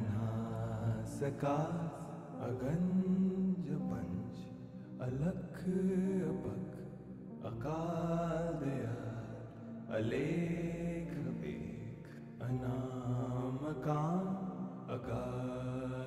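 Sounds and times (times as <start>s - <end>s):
calm chant-like music: 0.0s - 16.0s.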